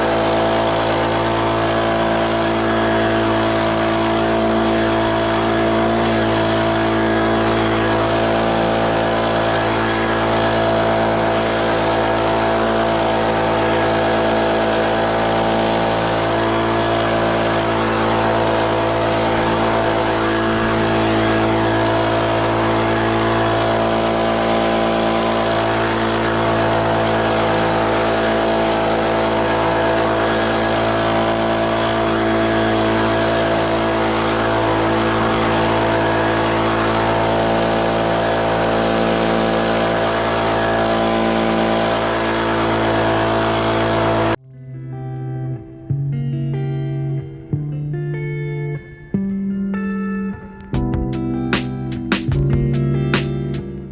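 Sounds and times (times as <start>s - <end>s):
leaf blower running: 0.0s - 44.4s.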